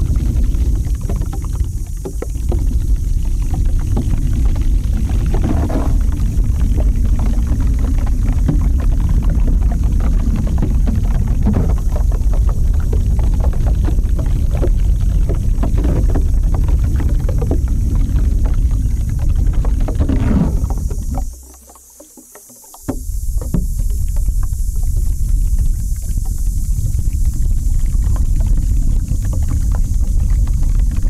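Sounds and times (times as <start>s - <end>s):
low crackling rumble on microphone: 0.0s - 31.0s.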